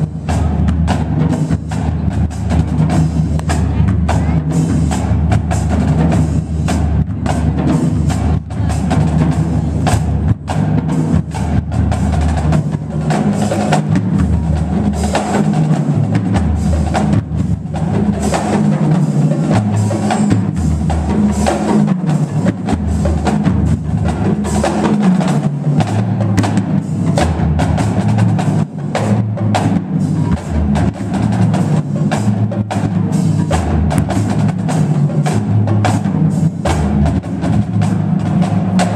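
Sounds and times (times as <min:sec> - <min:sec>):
snare drums: 0:00.0 - 0:38.9
tenor drums: 0:00.0 - 0:38.9.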